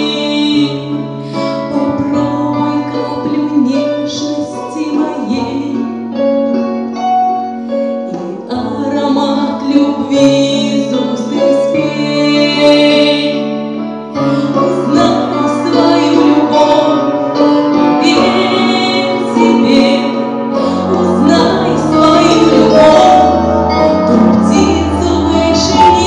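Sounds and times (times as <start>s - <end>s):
woman singing: 0.0s - 6.2s, 8.0s - 13.6s, 14.2s - 26.0s
backing track music: 0.0s - 26.0s.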